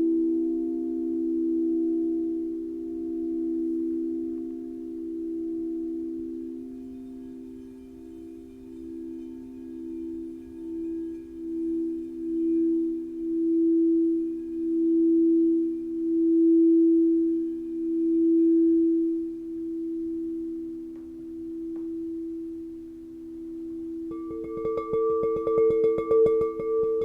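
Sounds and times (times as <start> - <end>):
singing bowls pulsing tones: 0.0 - 27.0.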